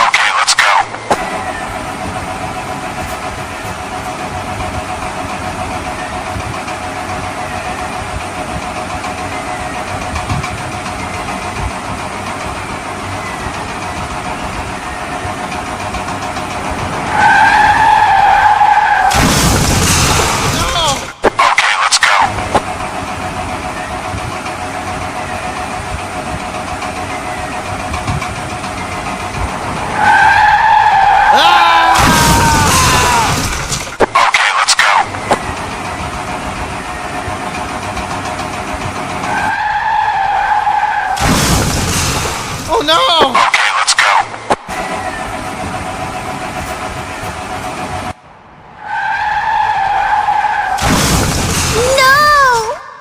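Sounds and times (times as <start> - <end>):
engine running: 0.0 - 48.9
rush of car noise: 0.0 - 53.0.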